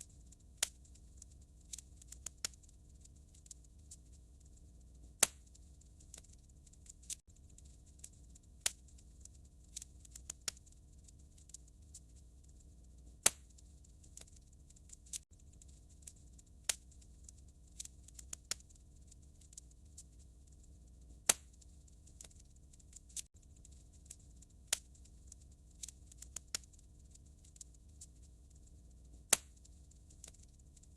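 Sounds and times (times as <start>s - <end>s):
fireplace fire crackling and popping: 0.0s - 30.9s.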